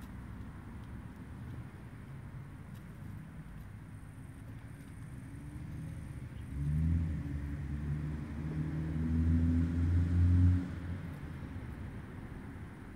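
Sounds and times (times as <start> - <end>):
vehicle engine hum: 0.0 - 12.9.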